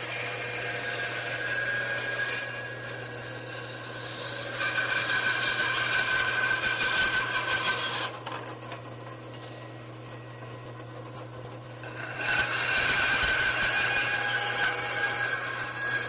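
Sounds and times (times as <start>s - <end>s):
power tool whining on wood: 0.0s - 16.0s.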